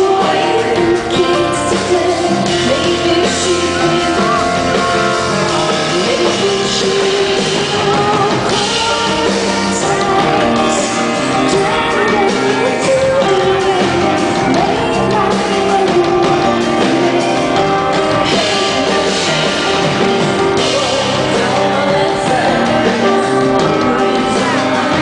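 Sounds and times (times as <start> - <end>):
rock band playing: 0.0 - 25.0
woman singing: 0.0 - 25.0.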